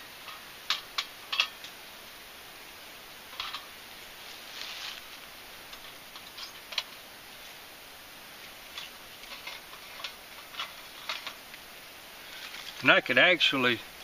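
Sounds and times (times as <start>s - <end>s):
twig fire crackling: 0.0s - 14.0s.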